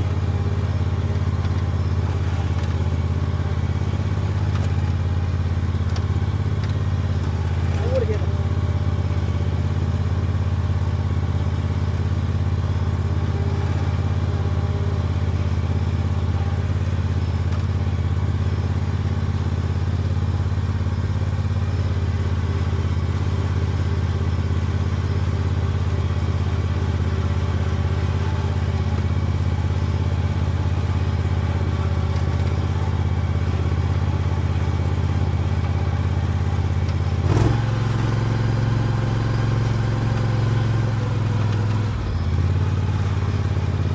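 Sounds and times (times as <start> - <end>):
mower engine running: 0.0 - 43.9.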